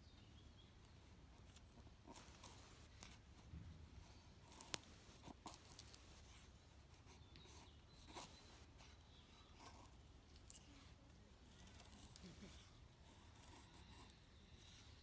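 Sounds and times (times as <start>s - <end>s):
faint scraping and rustling: 0.8s - 15.0s.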